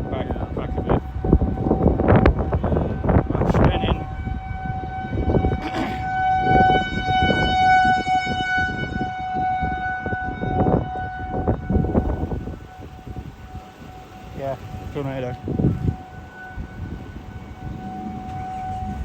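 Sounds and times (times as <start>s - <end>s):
warning siren steady tone: 0.0s - 19.0s.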